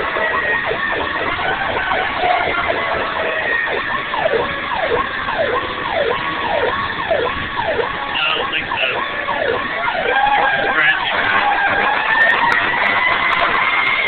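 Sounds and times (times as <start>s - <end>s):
fire truck siren wailing: 0.0s - 14.0s
steady high siren tone: 0.0s - 14.0s.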